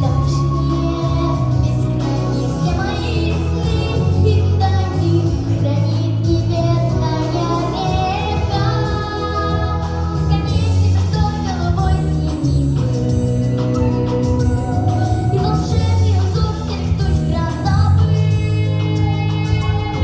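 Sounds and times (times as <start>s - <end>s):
backing track with bass line: 0.0s - 20.0s
girl singing pop song: 0.0s - 20.0s.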